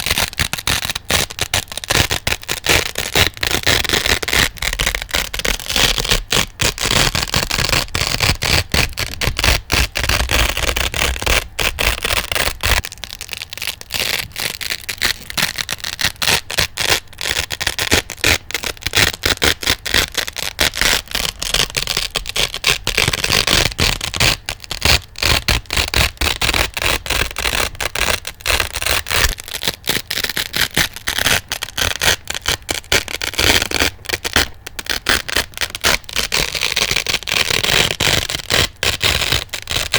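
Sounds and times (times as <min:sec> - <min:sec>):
velcro ripping and scratching: 0:00.0 - 0:39.9.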